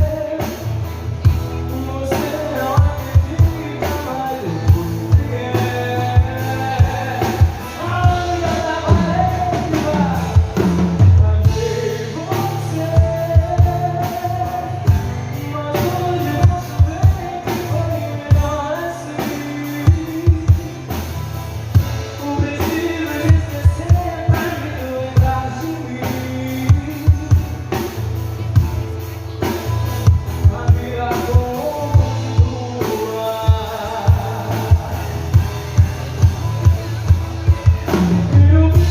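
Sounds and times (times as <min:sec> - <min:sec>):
bass line: 0:00.0 - 0:38.9
drum kit beat: 0:00.0 - 0:38.9.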